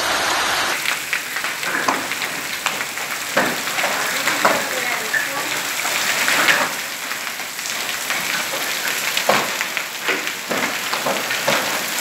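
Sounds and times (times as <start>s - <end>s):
hail and rain on hard surfaces: 0.0s - 12.0s
loud hailstone hit: 0.8s - 12.0s.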